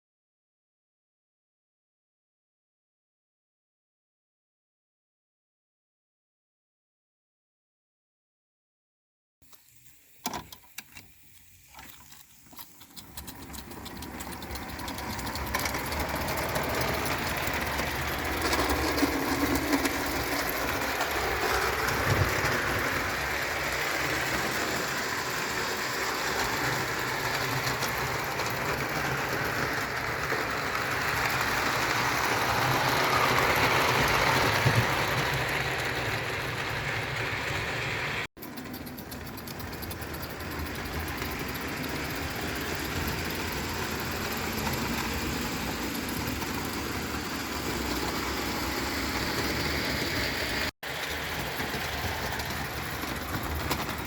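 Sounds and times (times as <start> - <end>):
toy locomotive mechanical rattle: 9.4 - 54.0.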